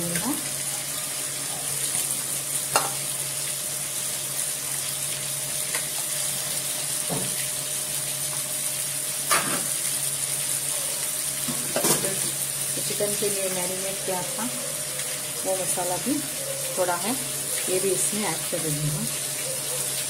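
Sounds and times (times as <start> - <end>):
gravy sizzling in frying pan: 0.0 - 20.0.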